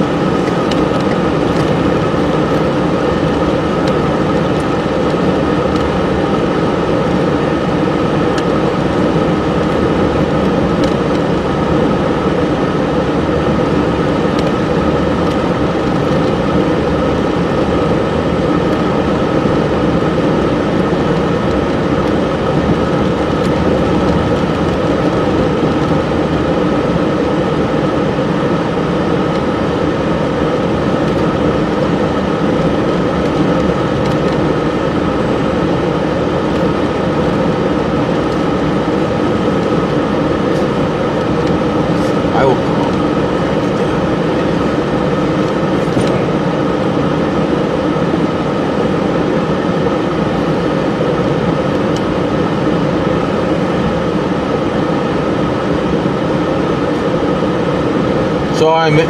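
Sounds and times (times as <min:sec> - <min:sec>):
engine and tyre rumble: 0:00.0 - 0:59.0
faint steady whine: 0:00.0 - 0:59.0.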